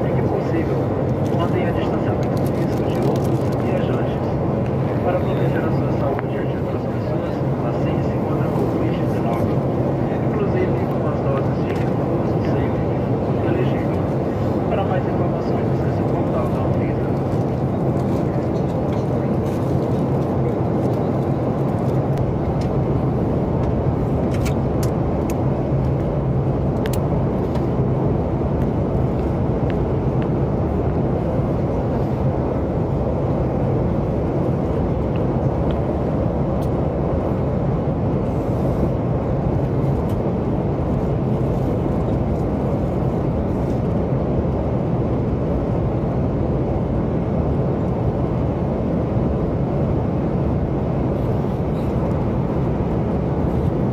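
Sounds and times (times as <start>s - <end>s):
airplane cabin noise: 0.0s - 53.9s.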